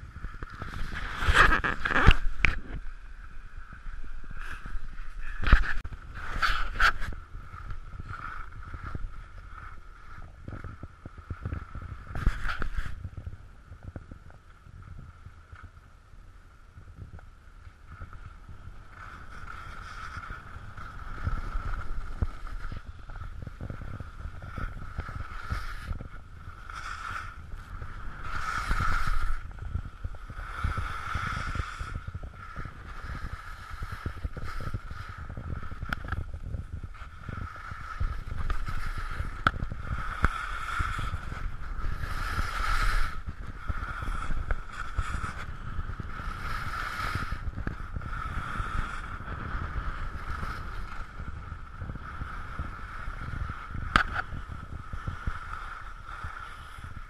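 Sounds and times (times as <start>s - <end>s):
skis carving on snow: 0.0s - 15.8s, 17.5s - 57.0s
wind buffeting microphone: 0.0s - 57.0s.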